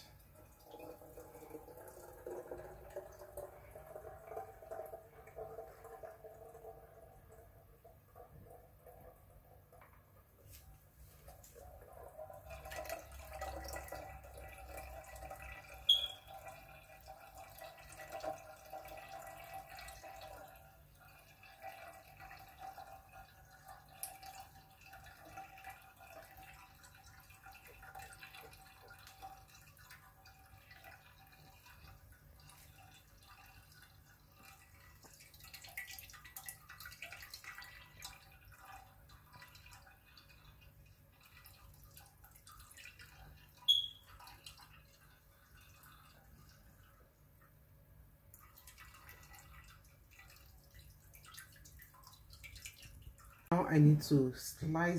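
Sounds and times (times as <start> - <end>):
juice trickling and dripping: 0.0 - 54.9.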